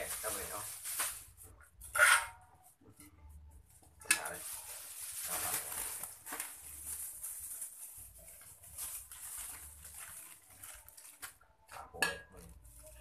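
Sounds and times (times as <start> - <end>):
plastic bags rustling and crinkling: 0.0 - 1.9, 3.7 - 13.0.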